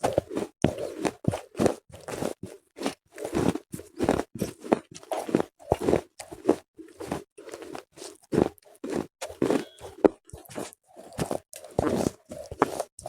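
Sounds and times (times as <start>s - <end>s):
crisp crunches of chewing: 0.1s - 13.0s.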